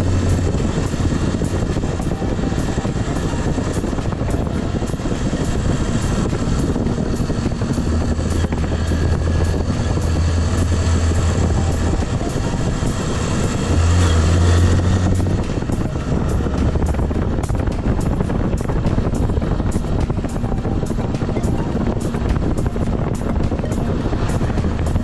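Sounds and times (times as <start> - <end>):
motorcycle engine hum: 0.0 - 25.0
wind noise on microphone: 0.0 - 25.0.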